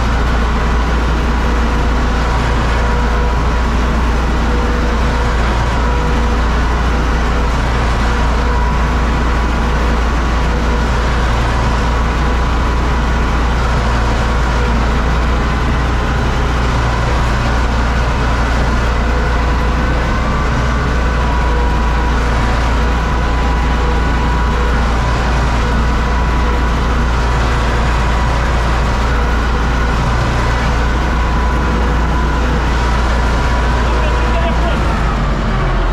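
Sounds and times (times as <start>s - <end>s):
tractor diesel engine drone: 0.0s - 35.9s.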